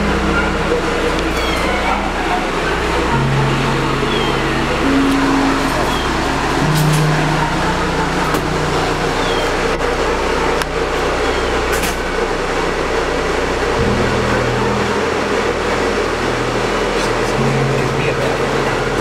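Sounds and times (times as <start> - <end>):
low hum: 0.0 - 19.0
mechanical running noise: 0.0 - 19.0.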